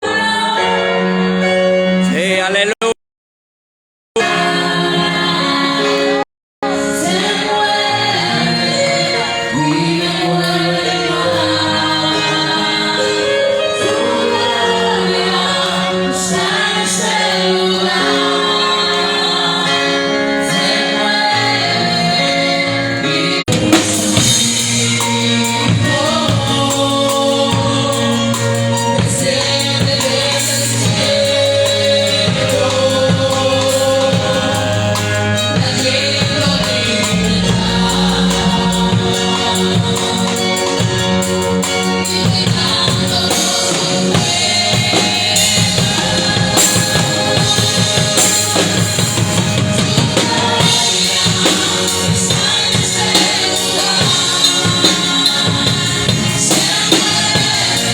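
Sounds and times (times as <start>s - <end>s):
group of singers: 0.0s - 2.6s, 4.2s - 57.9s
band with drum kit: 4.2s - 57.9s.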